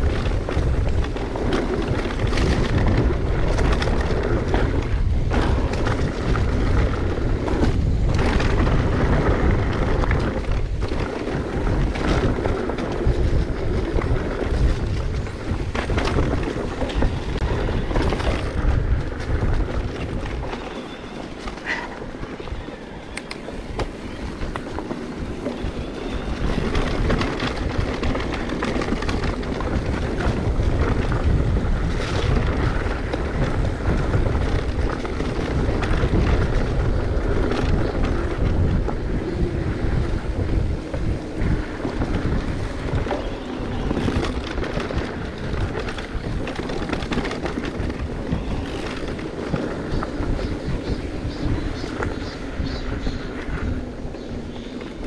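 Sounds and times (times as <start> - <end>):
mountain bike rumble on trail: 0.0 - 55.0
wind buffeting microphone: 0.0 - 55.0.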